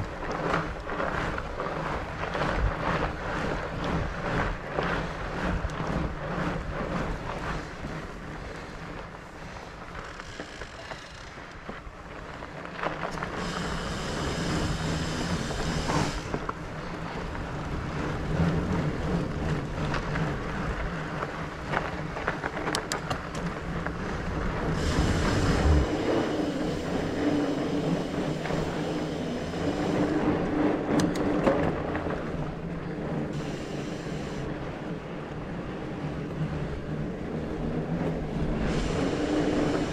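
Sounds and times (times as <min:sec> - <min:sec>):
bike clicks and knocks over bumps: 0:00.0 - 0:39.9
tyre and wind rumble: 0:00.0 - 0:39.9.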